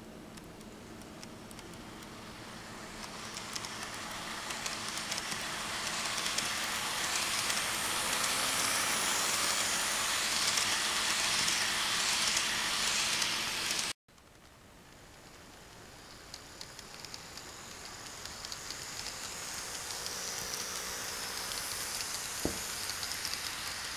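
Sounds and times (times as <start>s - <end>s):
faint clicks of train wheels: 0.0s - 23.9s
model train whirring on rails: 0.0s - 23.9s.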